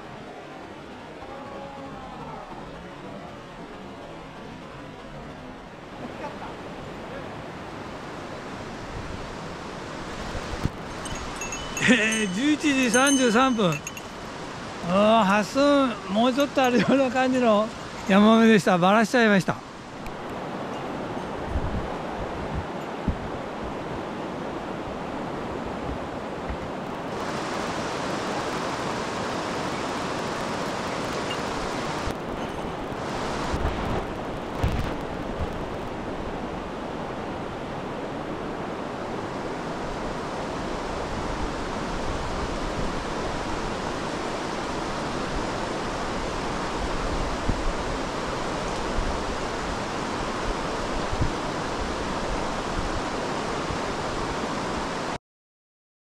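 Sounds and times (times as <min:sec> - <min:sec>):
mountain stream rushing: 0:00.0 - 0:55.2.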